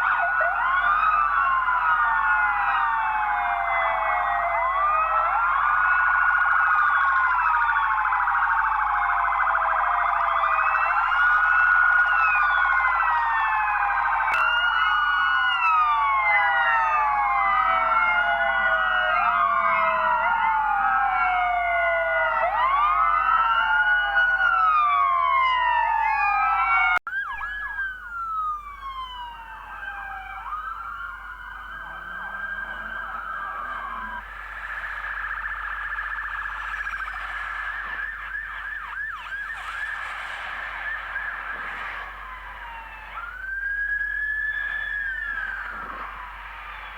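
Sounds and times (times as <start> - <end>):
police sirens wailing: 0.0 - 46.9
siren fast yelp: 0.0 - 46.9.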